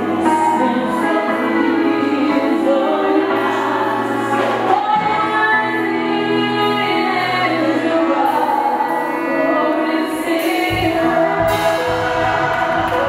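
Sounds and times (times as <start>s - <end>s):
band playing: 0.0s - 13.0s
woman singing lead: 0.0s - 13.0s.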